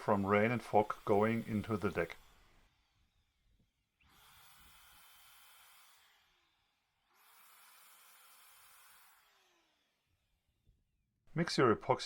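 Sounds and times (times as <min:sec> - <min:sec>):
small electric motor spinning: 0:00.0 - 0:03.4, 0:04.0 - 0:10.3.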